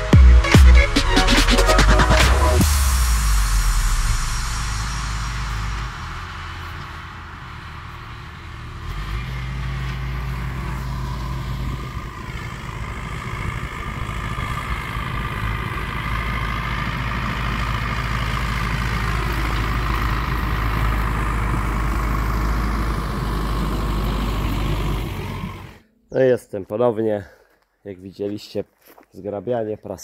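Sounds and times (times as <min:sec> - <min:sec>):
tractor diesel engine running: 0:00.0 - 0:25.8.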